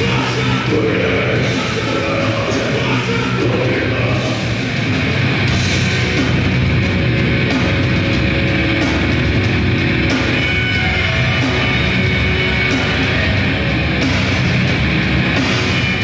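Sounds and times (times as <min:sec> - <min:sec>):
distorted guitars and bass: 0:00.0 - 0:16.0
drums: 0:00.0 - 0:16.0.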